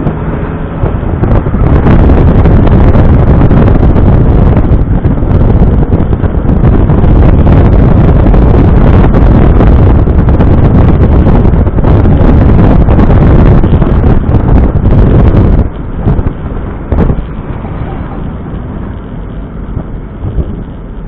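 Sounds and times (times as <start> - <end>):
car engine and road noise: 0.0 - 21.0
wind buffeting microphone: 0.0 - 21.0.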